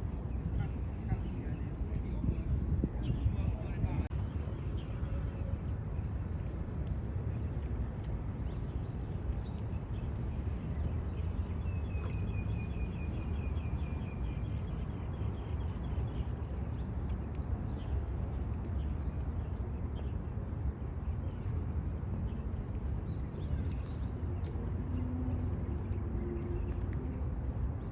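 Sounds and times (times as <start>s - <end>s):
steady low rumble: 0.0s - 27.9s.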